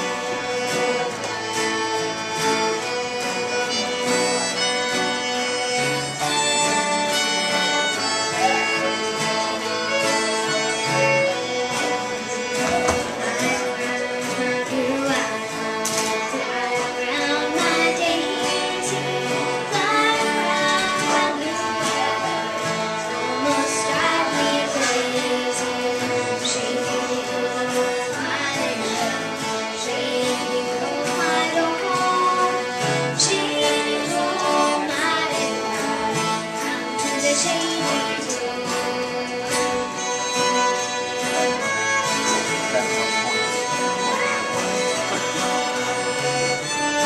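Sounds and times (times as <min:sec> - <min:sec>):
bowed fiddle melody: 0:00.0 - 0:47.0
strummed guitar chords: 0:00.0 - 0:47.0.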